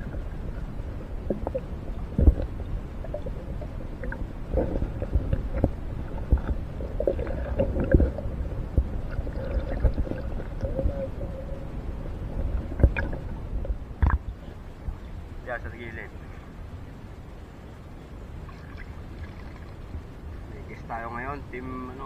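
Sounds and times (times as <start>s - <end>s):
muffled water sloshing: 0.0s - 20.6s.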